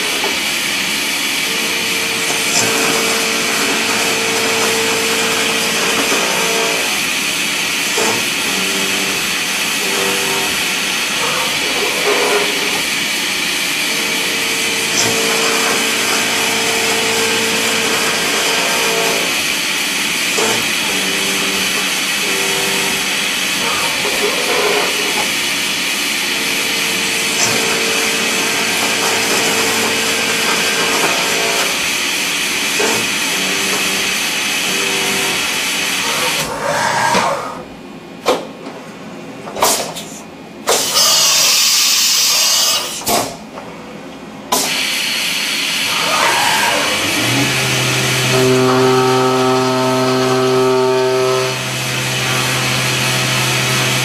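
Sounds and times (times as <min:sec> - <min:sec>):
milling machine hiss: 0:00.0 - 0:37.1, 0:39.6 - 0:43.4, 0:44.5 - 0:54.0.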